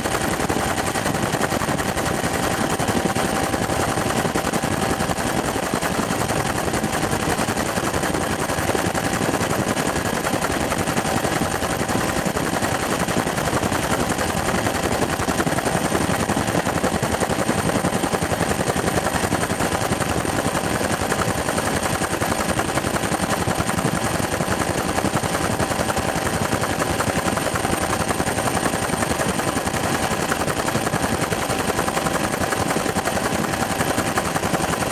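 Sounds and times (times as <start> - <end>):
helicopter rotor and engine noise: 0.0 - 34.9.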